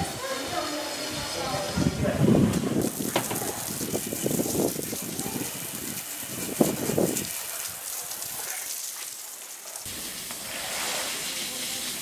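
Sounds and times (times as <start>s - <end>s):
garden hose spraying: 0.0s - 12.0s
water splashing on wet paving: 2.3s - 12.0s.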